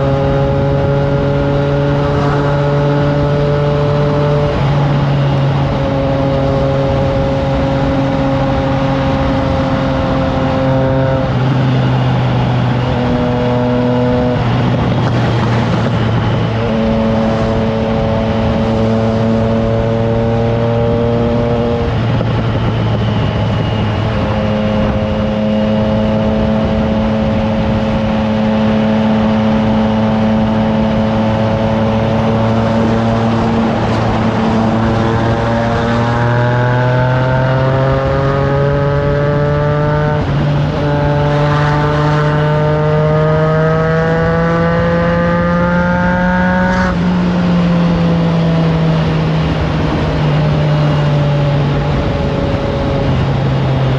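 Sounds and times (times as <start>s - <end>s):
motorcycle engine: 0.0s - 53.9s
wind noise: 0.0s - 53.9s.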